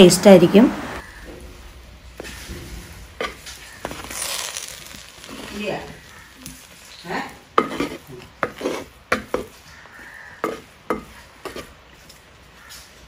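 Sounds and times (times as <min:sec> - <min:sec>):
spoon scraping against a pan: 0:02.2 - 0:12.9.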